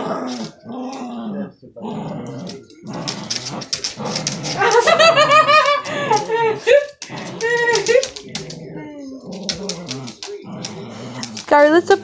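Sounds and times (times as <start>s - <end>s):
dog growling in play: 0.0s - 12.0s.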